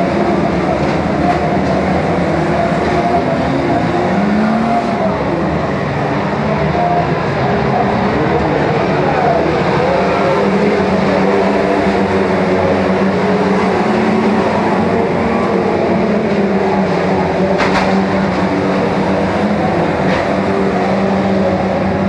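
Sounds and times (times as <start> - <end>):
racing car engines: 0.0 - 22.0.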